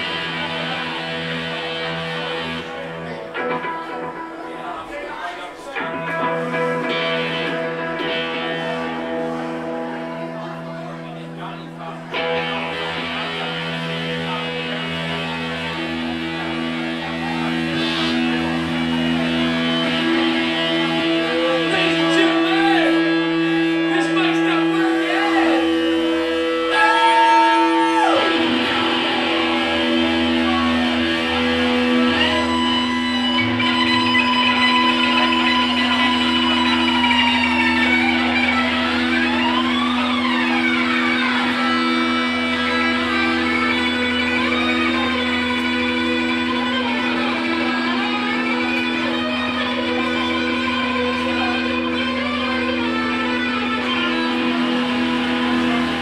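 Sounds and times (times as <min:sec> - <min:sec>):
live band music: 0:05.5 - 0:56.0.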